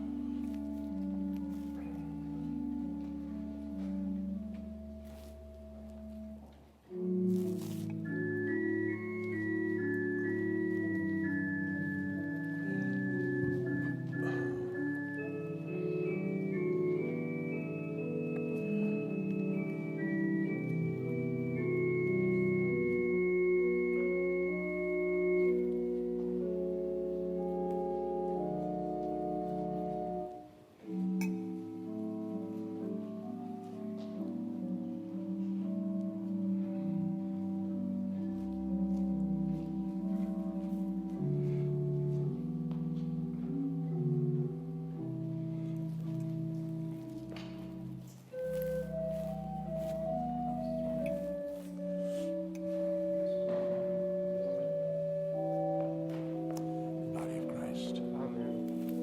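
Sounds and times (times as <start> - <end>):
organ playing slow chords: 0.0 - 59.0.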